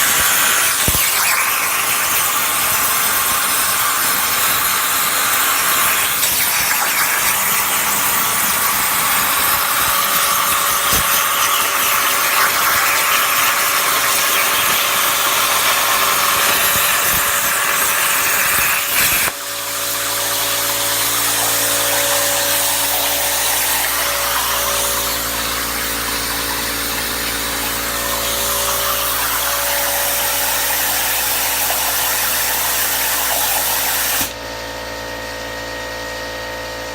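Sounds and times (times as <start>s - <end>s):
plasma torch cutting steel: 0.0s - 34.4s.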